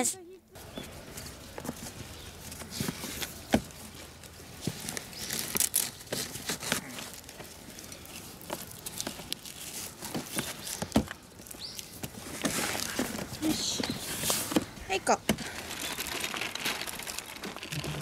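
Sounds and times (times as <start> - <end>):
fabric and plastic bag rustling: 0.6 - 18.0.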